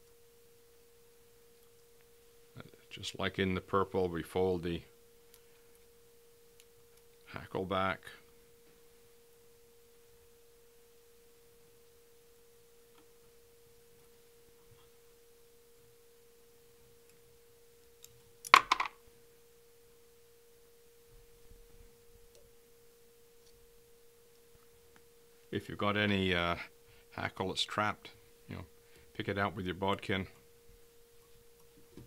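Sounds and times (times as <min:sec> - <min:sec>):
faint steady electrical hum: 0:00.0 - 0:32.0.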